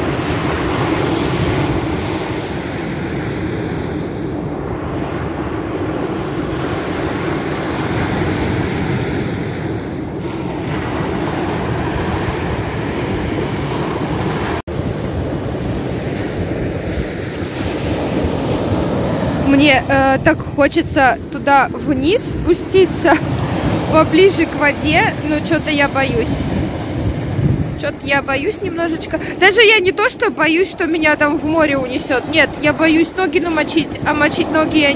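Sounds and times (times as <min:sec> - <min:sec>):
surf washing onto shore: 0:00.0 - 0:34.9
wind buffeting microphone: 0:00.0 - 0:34.9.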